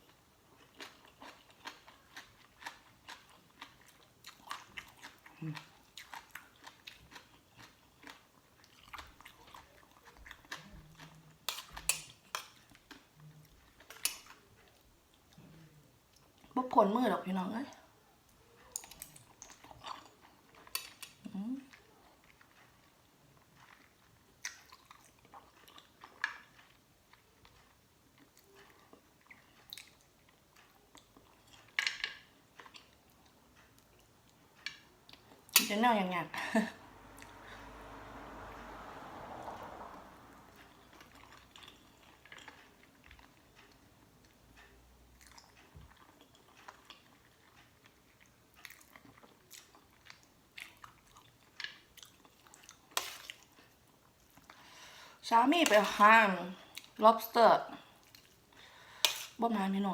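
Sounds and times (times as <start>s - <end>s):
person chewing food: 0.0s - 16.5s, 18.0s - 35.6s, 40.4s - 55.9s, 57.7s - 59.4s.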